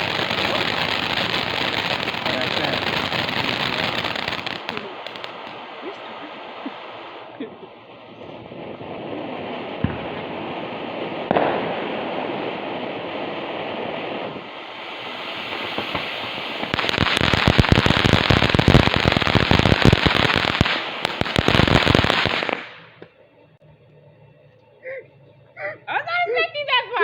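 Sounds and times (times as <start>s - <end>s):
firework crackling pops: 0.0s - 23.2s
firework hissing: 0.0s - 25.5s.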